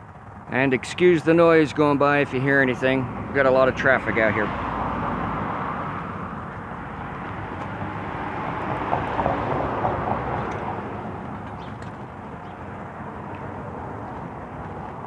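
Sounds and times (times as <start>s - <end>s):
road traffic passing by: 0.0s - 15.0s.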